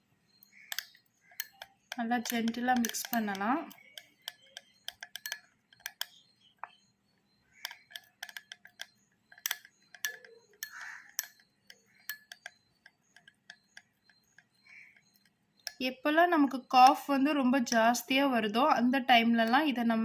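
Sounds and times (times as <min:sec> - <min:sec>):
spoon scraping: 0:00.3 - 0:17.8
spoon clicking against container: 0:00.3 - 0:18.2.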